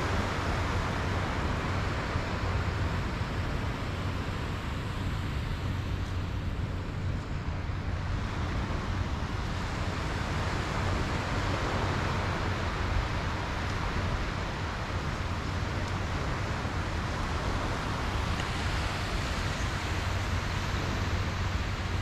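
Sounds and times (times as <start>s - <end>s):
surf washing onto sand: 0.0s - 22.0s
wind rumble on microphone: 0.0s - 22.0s.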